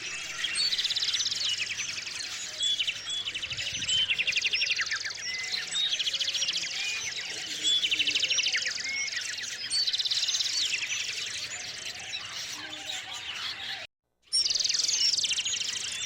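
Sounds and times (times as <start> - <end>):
songbirds trilling: 0.0 - 16.0.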